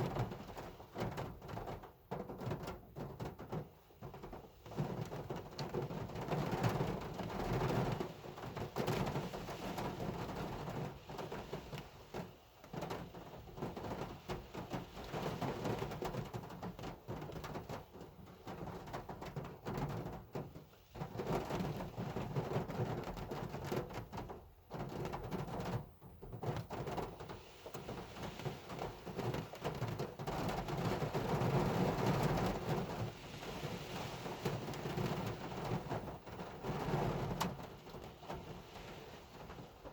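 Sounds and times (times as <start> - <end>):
hard rain on a car: 0.0 - 39.9.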